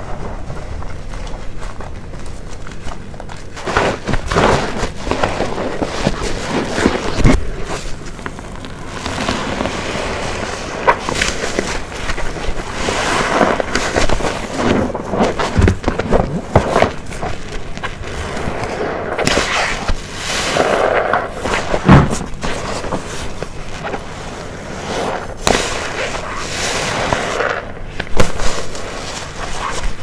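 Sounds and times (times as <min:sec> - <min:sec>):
foam crackling and popping: 0:00.0 - 0:30.0
wet sponge squelching: 0:00.0 - 0:30.0.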